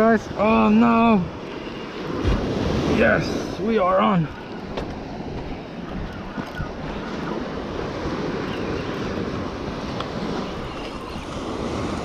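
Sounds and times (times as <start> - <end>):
ocean surf washing: 0.0 - 12.0
wind buffeting microphone: 0.0 - 12.0.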